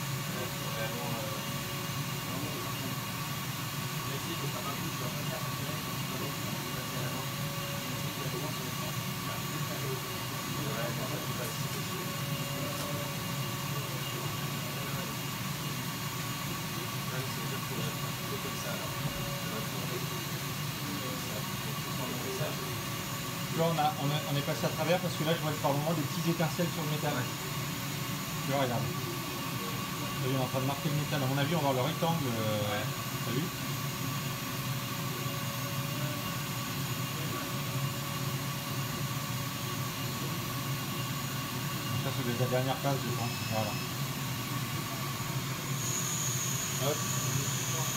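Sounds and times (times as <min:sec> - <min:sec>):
faint steady whine: 0:00.0 - 0:47.9
laser cutter hum and hiss: 0:00.0 - 0:47.9.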